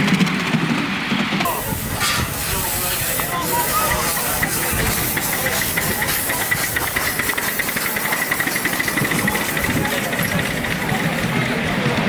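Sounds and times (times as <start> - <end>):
steam locomotive ticking beat: 1.4 - 12.0
hiss of steam: 1.5 - 11.3.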